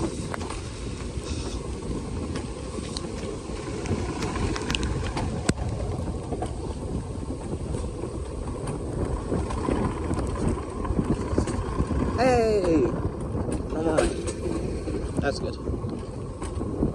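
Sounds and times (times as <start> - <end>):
sled rumbling on rails: 0.0 - 16.9
wind buffeting microphone: 0.0 - 16.9.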